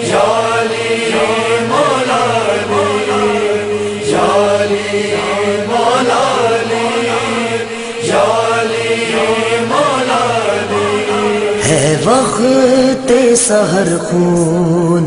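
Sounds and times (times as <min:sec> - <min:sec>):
held drone note: 0:00.0 - 0:13.3
chorus chanting a lament: 0:00.0 - 0:15.0.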